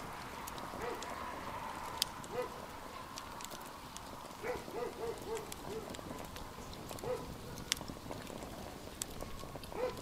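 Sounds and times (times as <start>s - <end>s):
wood fire crackling and popping: 0.0s - 10.0s.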